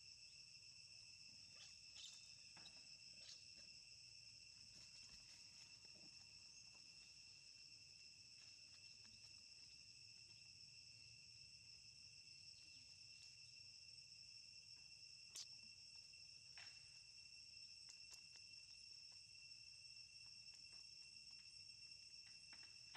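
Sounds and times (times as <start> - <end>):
insects droning in chorus: 0.0 - 22.9.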